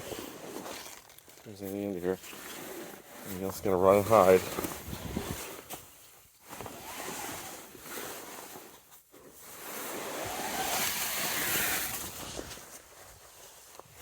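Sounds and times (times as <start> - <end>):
cover rustling and swishing: 0.0 - 14.0.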